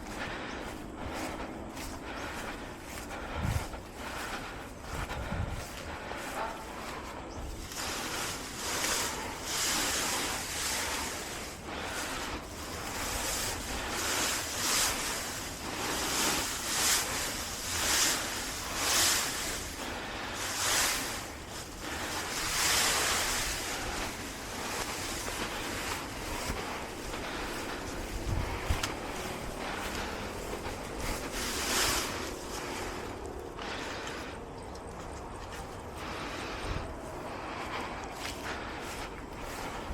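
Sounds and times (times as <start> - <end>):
heavy breathing: 0.0 - 39.9.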